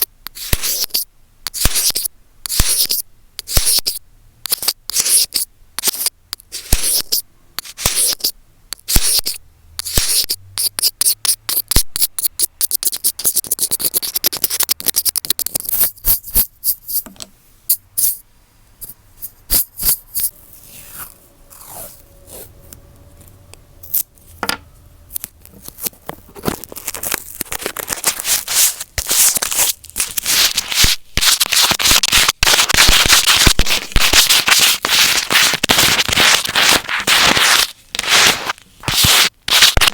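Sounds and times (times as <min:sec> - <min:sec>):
fingers scratching on microphone: 0:01.6 - 0:17.2, 0:18.8 - 0:22.5, 0:25.5 - 0:39.9.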